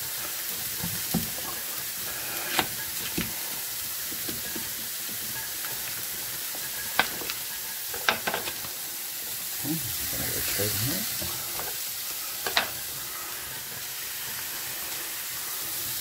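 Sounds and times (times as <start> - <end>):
onion sizzling in a frying pan: 0.0 - 16.0.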